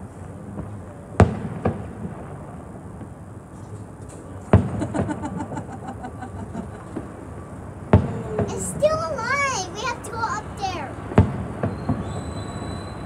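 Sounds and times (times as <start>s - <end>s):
firework crackle: 0.0s - 13.0s
firework bangs: 0.5s - 3.3s, 4.5s - 13.0s.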